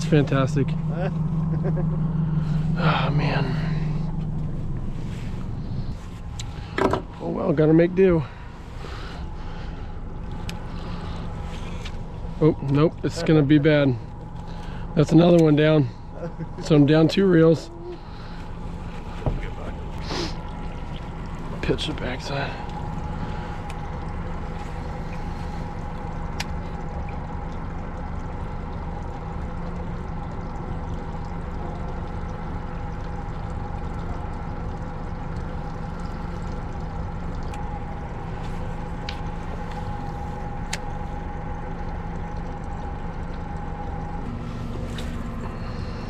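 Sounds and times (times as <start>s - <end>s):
boat motor humming: 0.0s - 46.0s.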